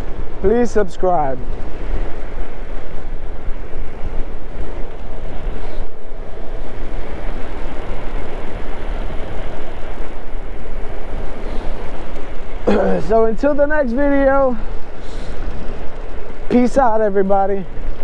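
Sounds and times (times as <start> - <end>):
vehicle road noise: 0.0 - 18.0
wind buffeting microphone: 0.0 - 18.0.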